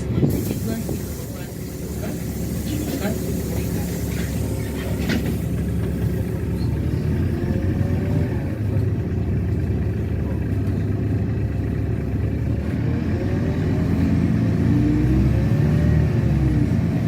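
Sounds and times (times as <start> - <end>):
bus engine low rumble: 0.0 - 17.0.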